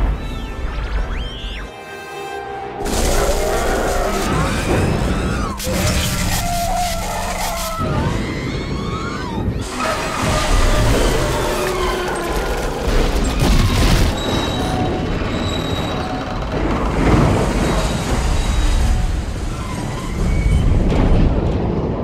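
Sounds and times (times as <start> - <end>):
film score music: 0.0 - 22.0.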